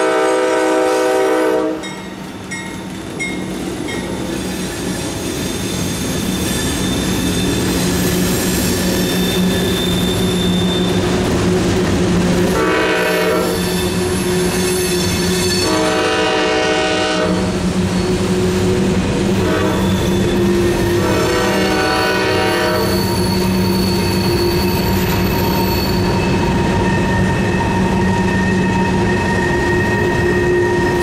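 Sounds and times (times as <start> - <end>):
rumble and clack of train cars: 0.0 - 31.0
train wheels whining on curves: 0.0 - 31.0.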